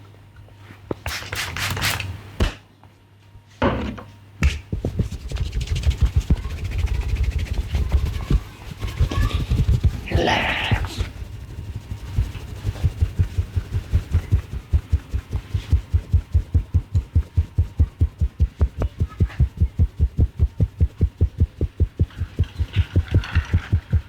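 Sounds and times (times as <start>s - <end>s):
hands pounding in massage: 4.4s - 24.0s.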